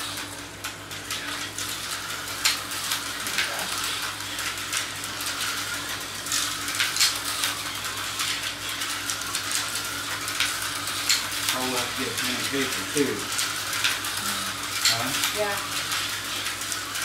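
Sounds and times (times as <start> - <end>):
slot car motors whirring: 0.0 - 17.0.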